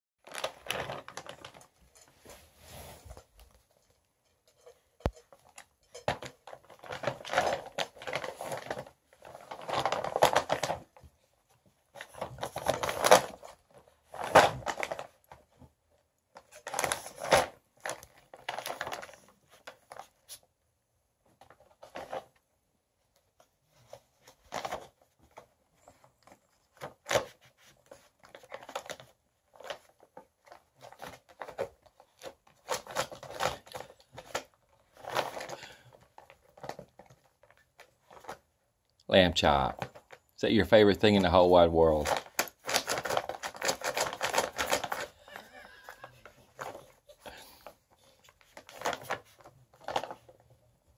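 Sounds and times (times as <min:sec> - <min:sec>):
plastic bag crinkling: 0:00.2 - 0:02.1, 0:04.5 - 0:15.4, 0:16.3 - 0:20.4, 0:23.9 - 0:38.6, 0:39.4 - 0:50.6.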